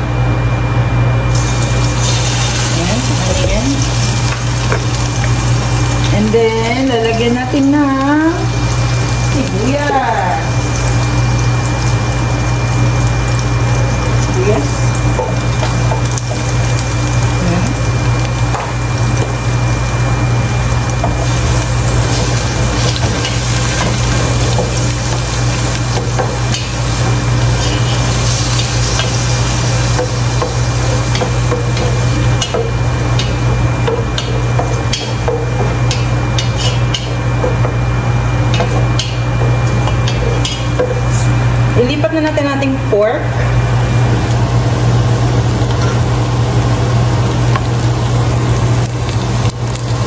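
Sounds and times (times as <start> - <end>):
steady low hum: 0.0 - 50.0
onion and garlic sizzling: 1.2 - 50.0.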